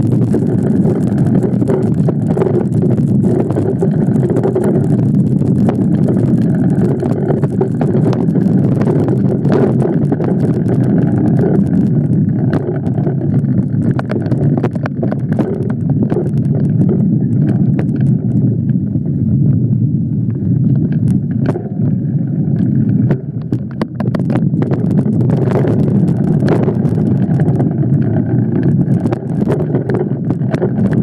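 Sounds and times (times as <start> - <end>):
bike clicks and knocks: 0.0 - 18.8, 20.8 - 31.0
bike tyres rolling on dirt: 0.0 - 31.0
wind buffeting microphone: 0.0 - 31.0.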